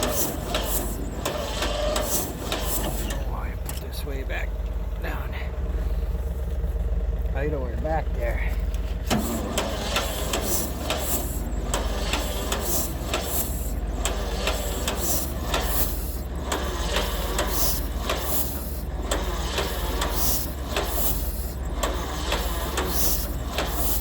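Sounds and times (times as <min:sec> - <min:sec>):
engine cranking without firing: 0:00.0 - 0:24.0.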